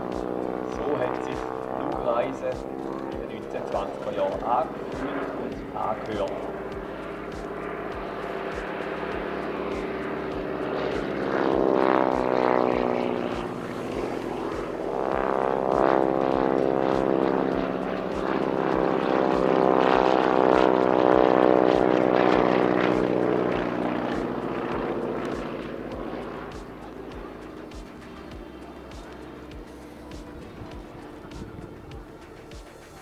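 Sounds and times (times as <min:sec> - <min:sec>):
propeller aircraft passing: 0:00.0 - 0:33.0.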